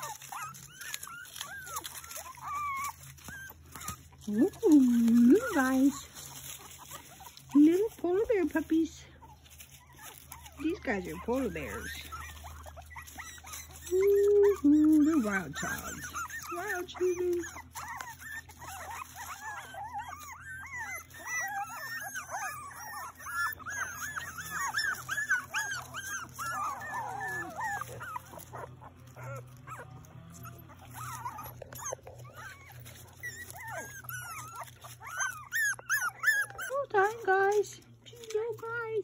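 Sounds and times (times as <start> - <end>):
puppies whining and squeaking: 0.0 - 39.0.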